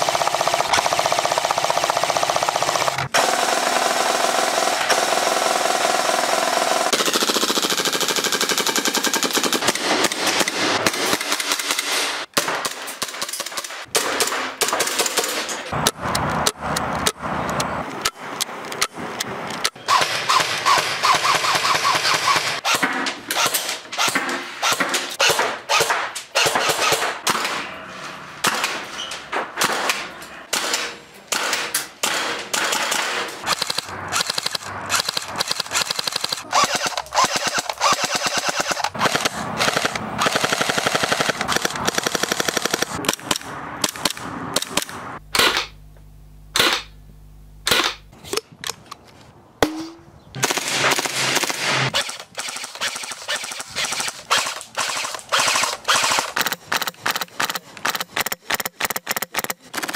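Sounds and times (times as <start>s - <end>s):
airsoft guns firing: 0.0s - 15.4s, 19.9s - 27.6s, 29.6s - 45.8s, 46.6s - 47.0s, 47.6s - 48.1s, 50.4s - 59.9s.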